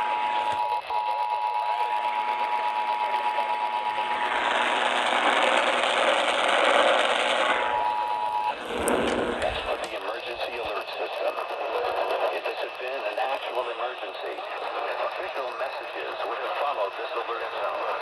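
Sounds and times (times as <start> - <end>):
radio hiss: 0.0 - 6.0, 6.6 - 18.0.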